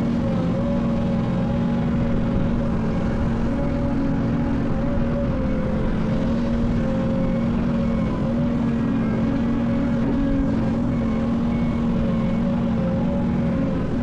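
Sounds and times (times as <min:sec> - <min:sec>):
diesel machinery humming: 0:00.0 - 0:14.0.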